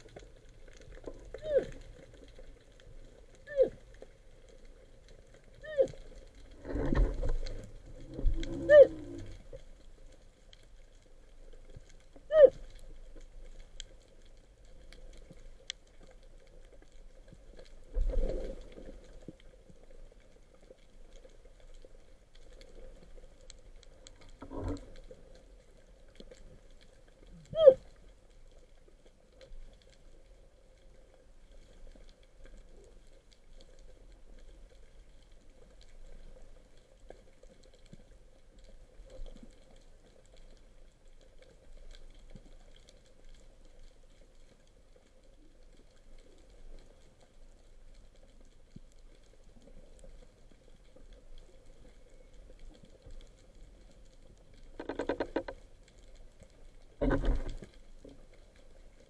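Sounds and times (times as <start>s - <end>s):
underwater crackling and ticking: 0.0s - 59.0s.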